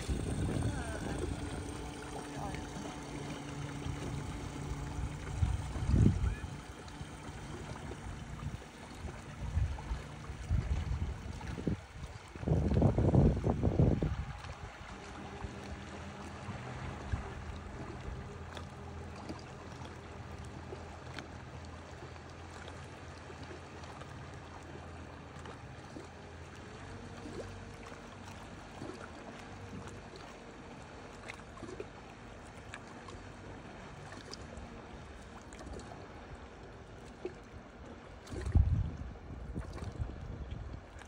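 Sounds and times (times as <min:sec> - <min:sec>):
distant outboard motor droning: 0:00.0 - 0:41.0
water lapping with splashes: 0:00.0 - 0:41.0.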